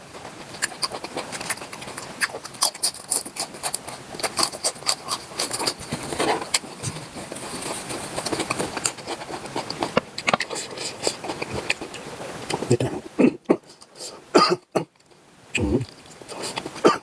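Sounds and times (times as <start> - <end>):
close-miked chewing clicks and smacks: 0.0 - 12.8, 15.8 - 16.8.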